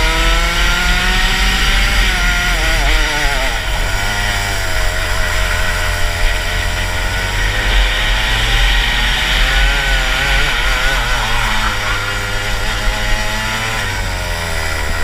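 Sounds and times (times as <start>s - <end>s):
kart engine revving: 0.0s - 15.0s.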